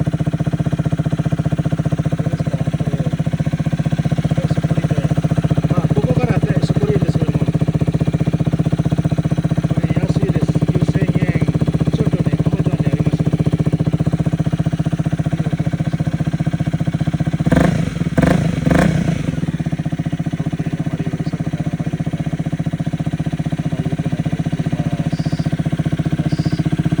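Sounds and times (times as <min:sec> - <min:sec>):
motorcycle engine idling: 0:00.0 - 0:27.0
motorcycle throttle blips: 0:00.0 - 0:27.0.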